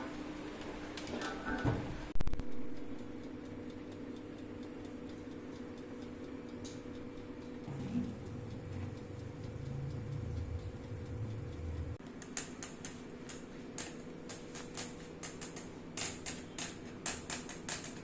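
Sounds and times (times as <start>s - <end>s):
low steady hum: 1.0s - 17.0s.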